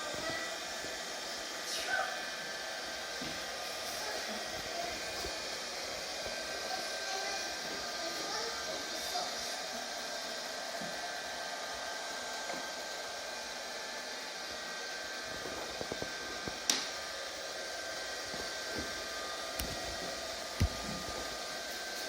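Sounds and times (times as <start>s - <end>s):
robotic vacuum cleaner whirring: 0.0s - 22.0s.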